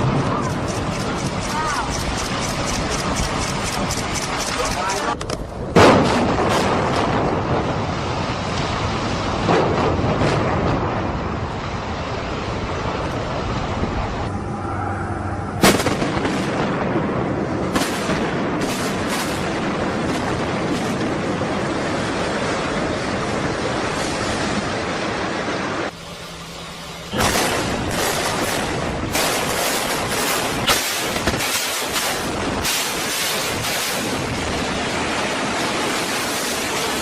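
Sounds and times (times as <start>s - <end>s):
demolition blasts: 0.0s - 14.4s, 15.5s - 26.0s, 27.0s - 37.0s
rumble of collapsing structure: 0.0s - 26.0s, 27.0s - 37.0s.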